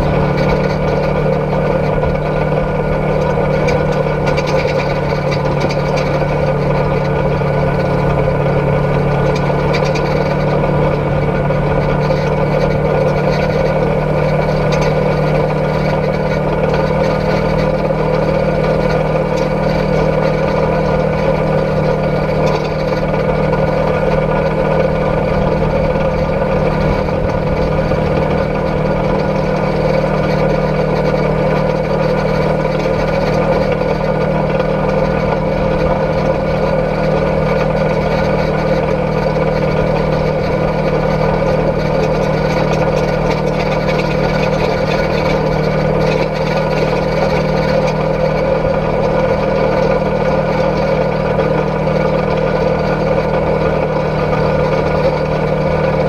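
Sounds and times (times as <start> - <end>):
driving on gravel road: 0.0 - 56.0
vehicle engine running: 0.0 - 56.0.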